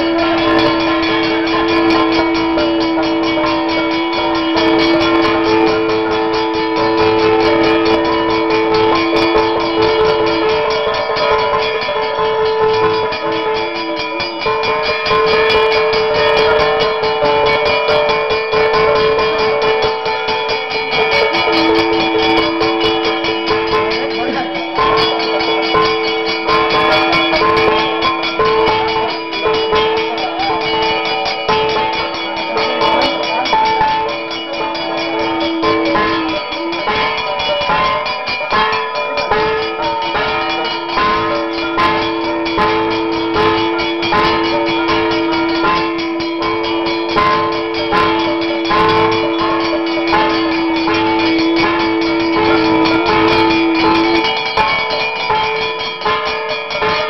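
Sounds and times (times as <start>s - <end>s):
drums beating: 0.0s - 57.0s
hand bell ringing: 0.0s - 57.0s
two-note drone: 0.0s - 57.0s
wavering melody: 0.0s - 57.0s.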